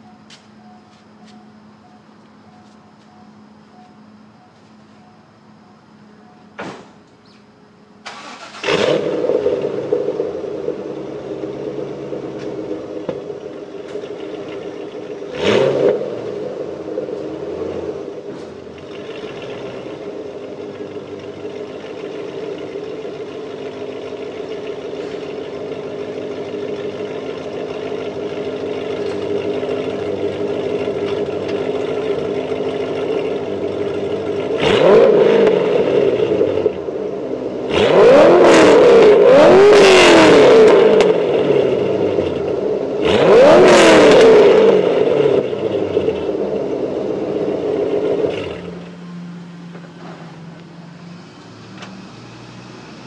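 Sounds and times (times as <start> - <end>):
car engine idling: 0.0 - 53.0
car engine starting: 6.1 - 53.0
engine revving: 8.1 - 53.0.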